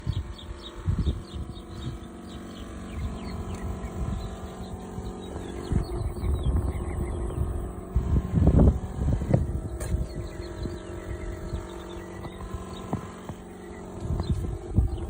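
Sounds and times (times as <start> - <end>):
air conditioner hum: 0.0 - 15.0
low pulsating thump: 0.0 - 15.0.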